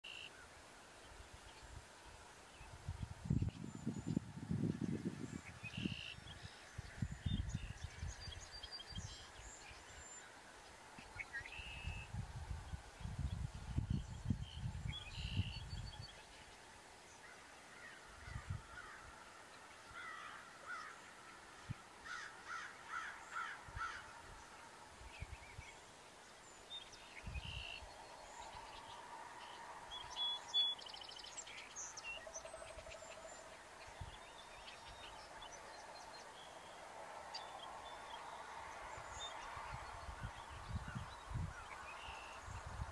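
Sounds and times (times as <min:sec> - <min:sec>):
faint steady hiss: 0:00.0 - 0:42.9.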